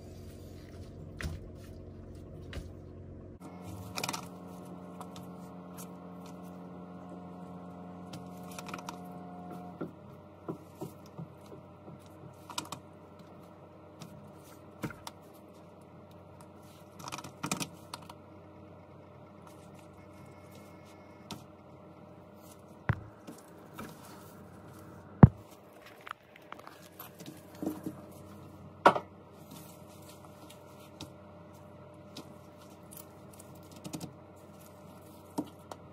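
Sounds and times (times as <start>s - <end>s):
steady hum: 0.0s - 35.9s.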